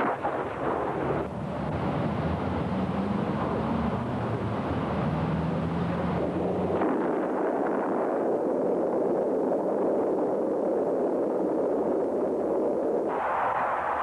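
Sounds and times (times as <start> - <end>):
steady rushing roar: 0.0 - 14.0.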